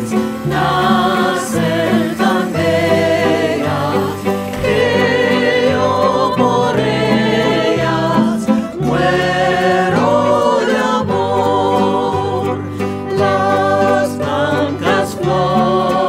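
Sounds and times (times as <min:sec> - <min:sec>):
slowly changing chords: 0:00.0 - 0:16.0
voices singing long notes: 0:00.0 - 0:16.0.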